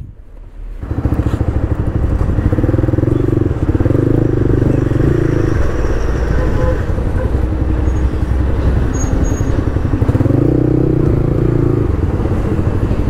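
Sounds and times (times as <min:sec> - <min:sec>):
motorcycle engine idling: 0:00.6 - 0:13.0.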